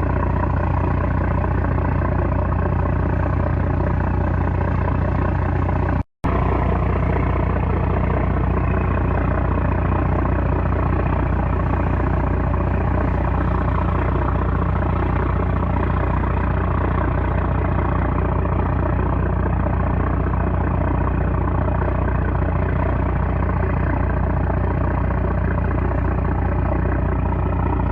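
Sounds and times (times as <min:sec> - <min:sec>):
diesel engine humming: 0:00.0 - 0:27.9.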